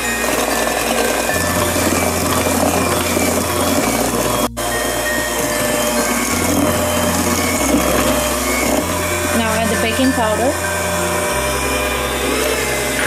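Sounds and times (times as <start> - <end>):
electric hand mixer churning batter: 0.0 - 13.0.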